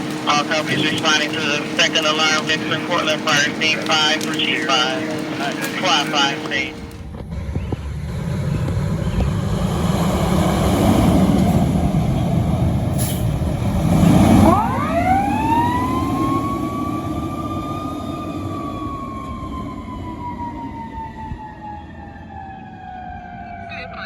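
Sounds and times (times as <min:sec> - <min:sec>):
fire engine rumbling: 0:00.0 - 0:24.0
fire engine siren: 0:00.0 - 0:24.0.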